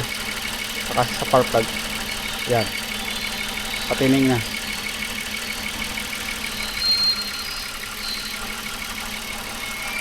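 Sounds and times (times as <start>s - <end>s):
car engine idling with ticking: 0.0s - 10.0s.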